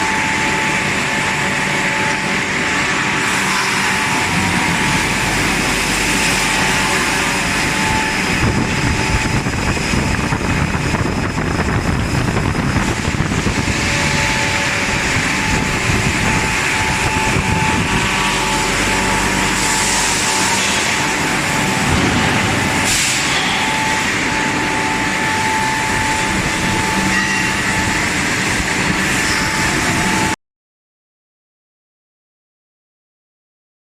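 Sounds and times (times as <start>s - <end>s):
forging machine noise: 0.0s - 30.4s
high-pitched machine whine: 0.0s - 30.4s.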